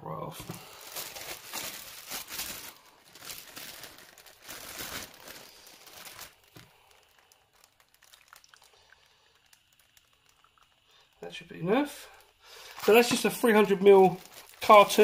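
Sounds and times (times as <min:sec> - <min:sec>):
plastic packaging crinkling: 0:00.4 - 0:15.0.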